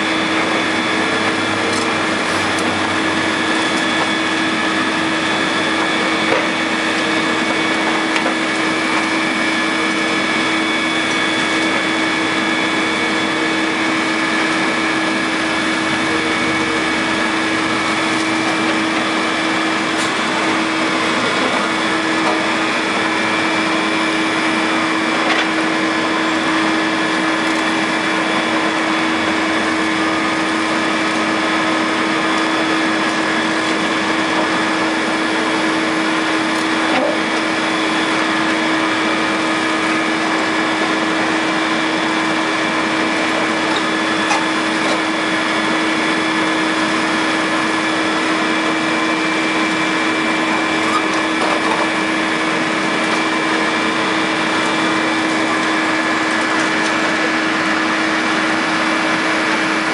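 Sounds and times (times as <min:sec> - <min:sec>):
excavator running: 0:00.0 - 0:59.9.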